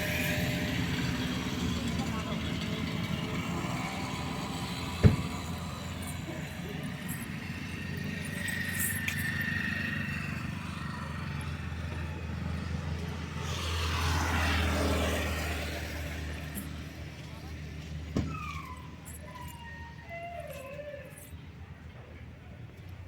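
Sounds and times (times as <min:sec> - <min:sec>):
low hum of road traffic: 0:00.0 - 0:23.0.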